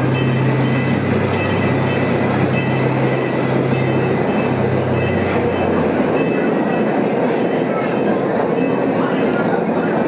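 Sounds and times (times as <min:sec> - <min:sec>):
miniature train engine hum: 0:00.0 - 0:10.0.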